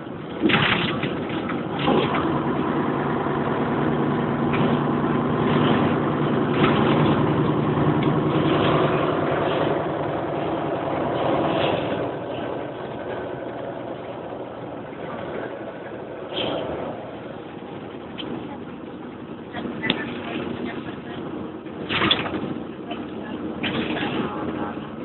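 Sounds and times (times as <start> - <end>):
coach engine drone: 0.0 - 25.0
road and wind noise: 0.0 - 25.0.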